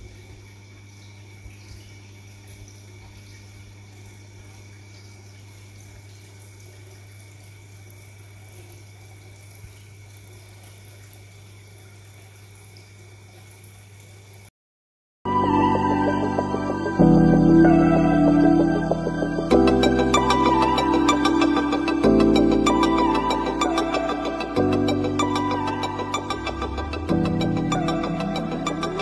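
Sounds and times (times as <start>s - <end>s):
water trickling: 0.0s - 14.5s, 15.3s - 29.0s.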